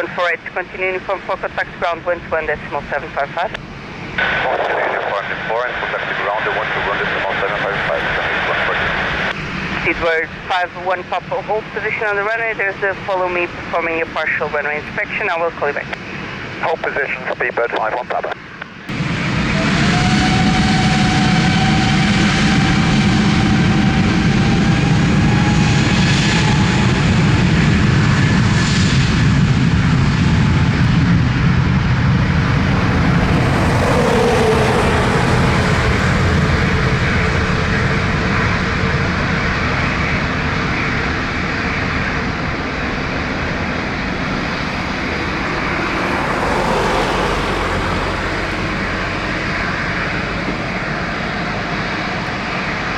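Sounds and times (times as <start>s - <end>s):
jet engines running: 0.0s - 52.9s.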